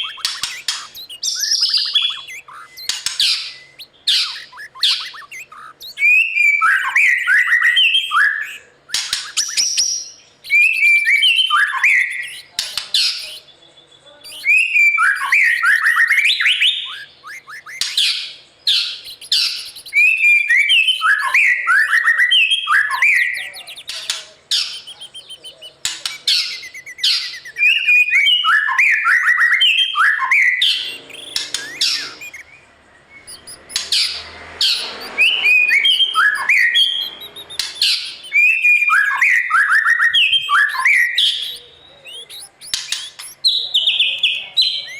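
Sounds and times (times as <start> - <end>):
bird singing whistled phrases: 0.0 - 44.9.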